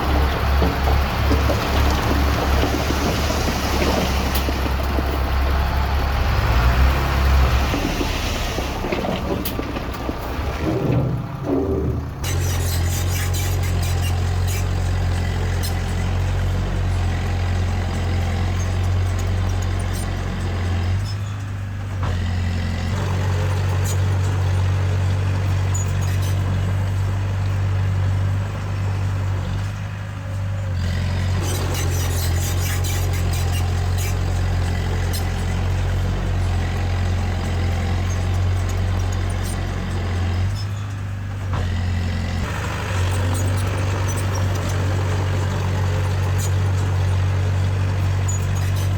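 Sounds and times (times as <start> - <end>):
bulldozer diesel engine: 0.0 - 48.9.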